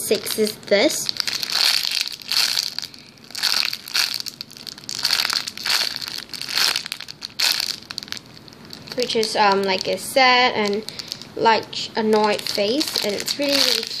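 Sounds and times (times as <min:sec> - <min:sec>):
plastic bag crinkling: 0:00.3 - 0:11.4, 0:12.0 - 0:14.0.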